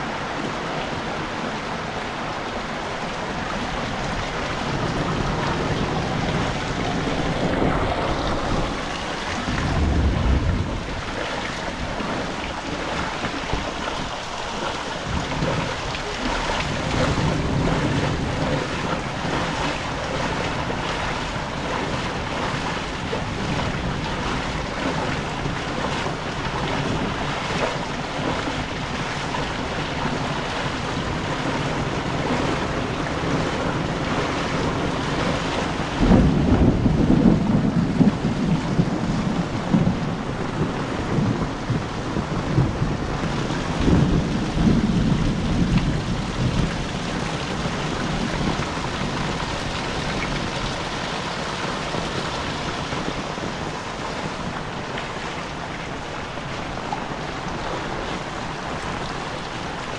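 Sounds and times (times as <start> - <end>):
heavy rain: 0.0 - 59.9
thunder rumbling: 3.4 - 54.8.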